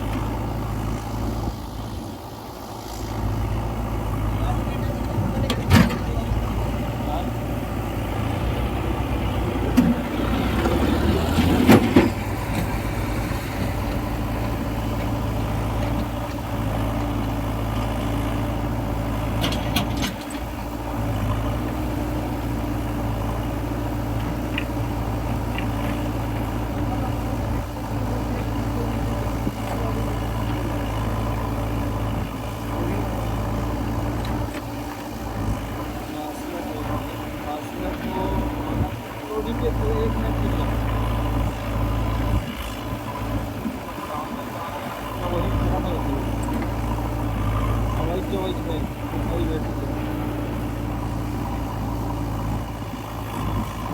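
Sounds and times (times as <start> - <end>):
diesel machinery engine drone: 0.0 - 53.9.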